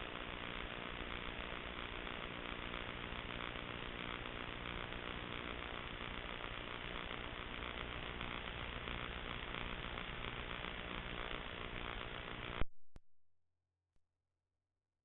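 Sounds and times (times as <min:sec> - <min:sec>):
electrical static hiss: 0:00.0 - 0:12.6
low hum: 0:00.0 - 0:12.7.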